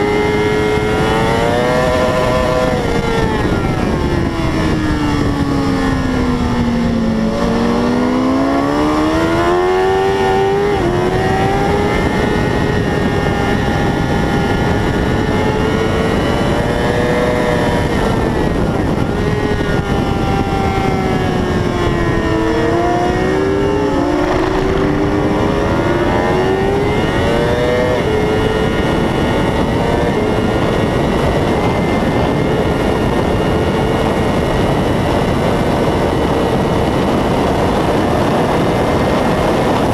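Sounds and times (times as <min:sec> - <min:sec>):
motorcycle engine revving: 0:00.0 - 0:39.9
steady rushing noise: 0:00.0 - 0:39.9.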